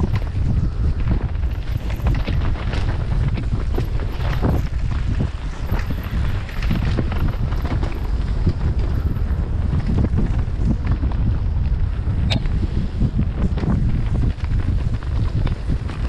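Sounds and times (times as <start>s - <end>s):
bike clicks knocks and rattles: 0.0s - 16.0s
bike tyre rumble: 0.0s - 16.0s
wind buffeting microphone: 0.0s - 16.0s.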